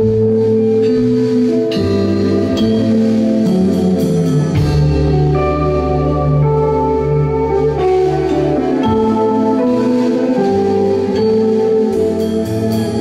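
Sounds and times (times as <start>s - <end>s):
bass line: 0.0s - 13.0s
electric guitars sustained notes: 0.0s - 13.0s.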